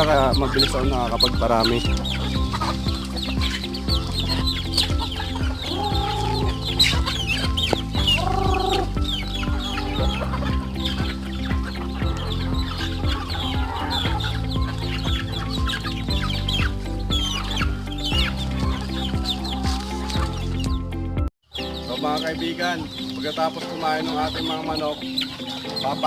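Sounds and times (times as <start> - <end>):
background music: 0.0 - 26.0
chickens clucking: 0.0 - 26.0.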